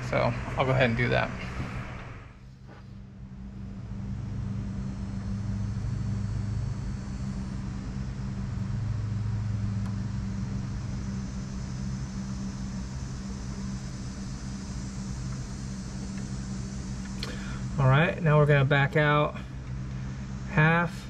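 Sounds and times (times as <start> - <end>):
low mechanical hum of motor: 0.0 - 21.0.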